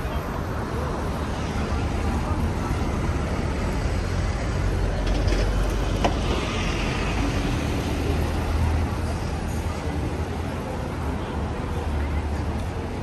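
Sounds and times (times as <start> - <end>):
street noise: 0.0 - 13.0
vehicles passing: 0.0 - 13.0.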